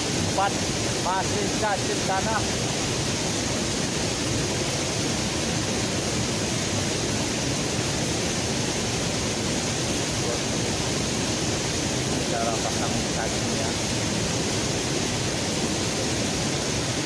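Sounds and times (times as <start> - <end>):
water rushing over waterfall: 0.0 - 17.0.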